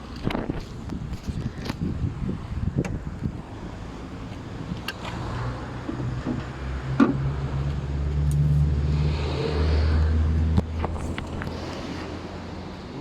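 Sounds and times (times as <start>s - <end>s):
car engine humming: 0.9s - 13.0s.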